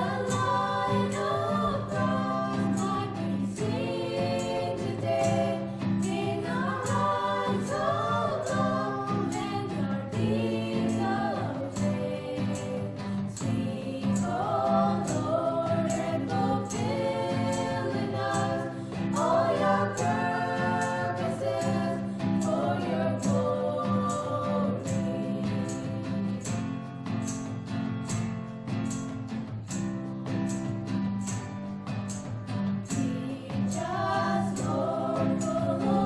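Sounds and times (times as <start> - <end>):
voices singing gospel song: 0.0 - 27.4, 32.8 - 36.0.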